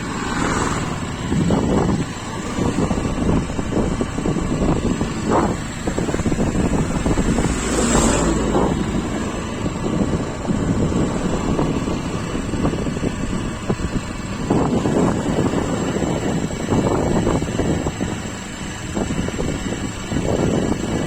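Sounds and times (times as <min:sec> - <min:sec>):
loud rushing rumble: 0:00.0 - 0:18.2
wind buffeting microphone: 0:00.0 - 0:21.0.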